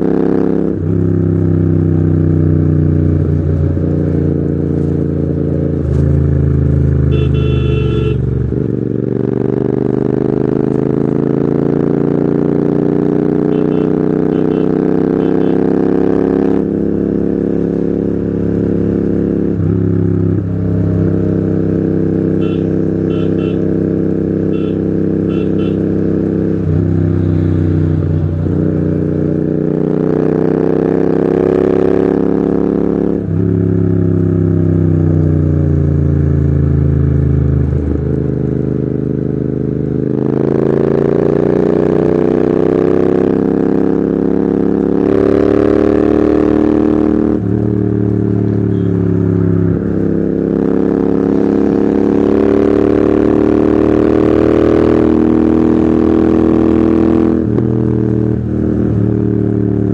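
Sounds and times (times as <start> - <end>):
loud motorcycle engine running: 0.0 - 59.9.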